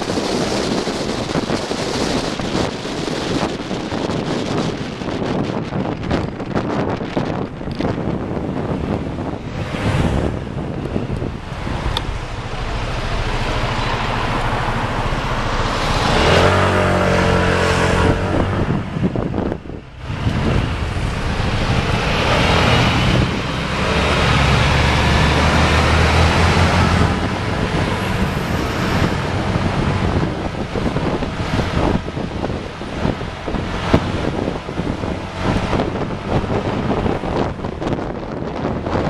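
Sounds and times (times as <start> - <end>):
heavier engine note: 0.0 - 38.4
vehicle engines in slow traffic: 0.0 - 39.0.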